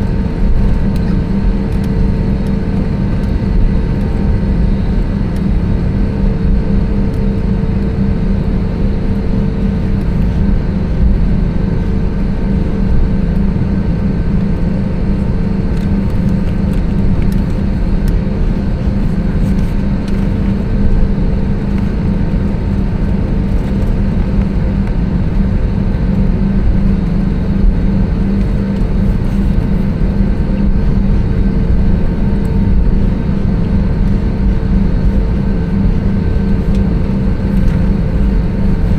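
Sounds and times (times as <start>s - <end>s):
airliner cabin hum: 0.0s - 38.9s.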